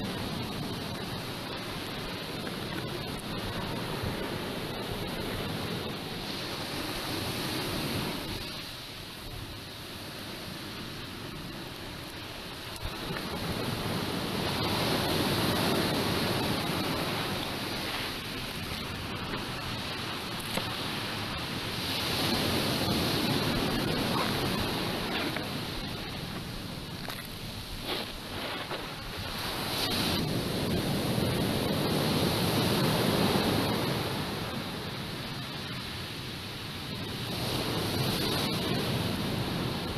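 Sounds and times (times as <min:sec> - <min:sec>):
waves breaking on rocky shore: 0:00.0 - 0:39.9.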